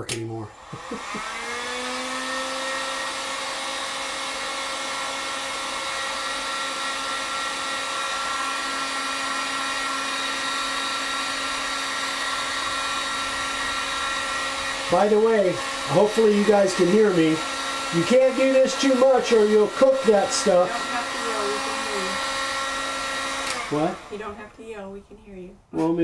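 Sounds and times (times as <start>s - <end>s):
heat gun fan whining hiss: 0.4s - 24.3s.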